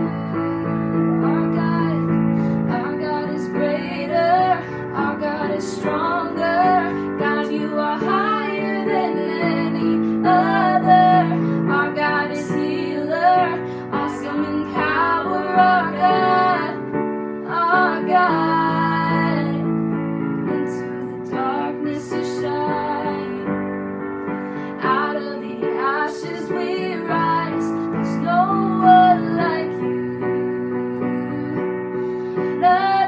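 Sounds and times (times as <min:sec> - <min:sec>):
woman singing: 0:00.0 - 0:19.8, 0:20.4 - 0:23.8, 0:24.7 - 0:33.0.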